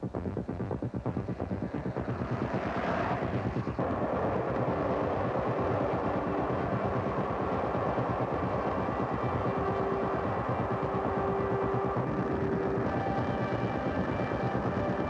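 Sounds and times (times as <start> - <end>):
electronic music with pulsing beat: 0.0 - 15.0
steady rushing noise: 0.0 - 15.0.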